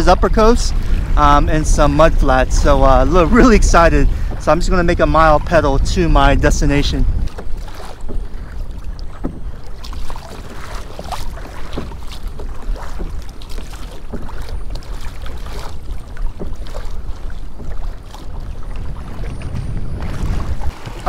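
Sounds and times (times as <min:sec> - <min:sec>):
water slapping against kayak hull: 0:00.0 - 0:21.0
wind rumble on microphone: 0:00.0 - 0:21.0.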